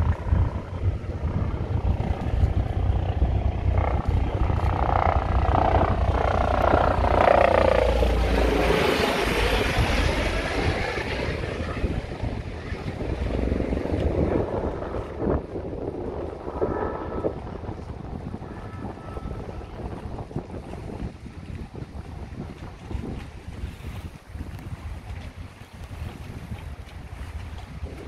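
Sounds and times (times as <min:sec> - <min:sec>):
helicopter flying low past: 0:00.0 - 0:23.0
wind rumble on microphone: 0:00.0 - 0:28.0.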